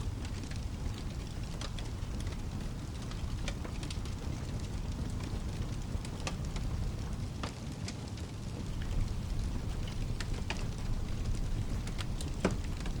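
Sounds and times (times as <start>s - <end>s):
low continuous rumble: 0.0s - 7.4s, 8.2s - 13.0s
steady rain: 0.0s - 13.0s
wood fire crackling and popping: 0.0s - 13.0s.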